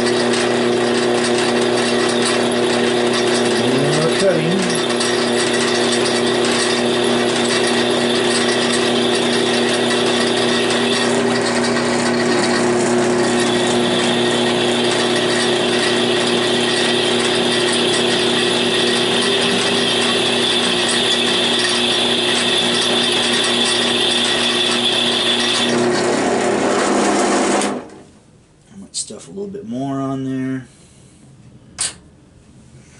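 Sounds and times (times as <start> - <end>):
drill press drilling metal: 0.0 - 28.0.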